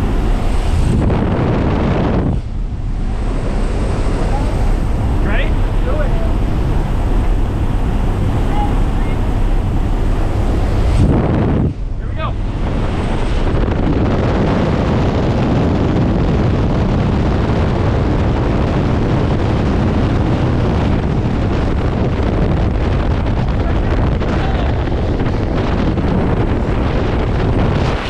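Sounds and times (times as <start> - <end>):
plane engine drone: 0.0 - 28.0
wind buffeting microphone: 0.0 - 28.0
wind rushing: 0.0 - 28.0.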